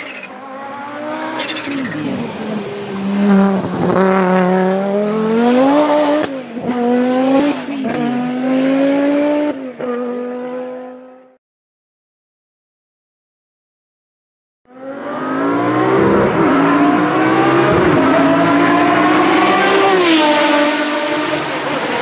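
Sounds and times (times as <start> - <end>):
sports car engine accelerating: 0.2 - 11.4, 14.7 - 22.0.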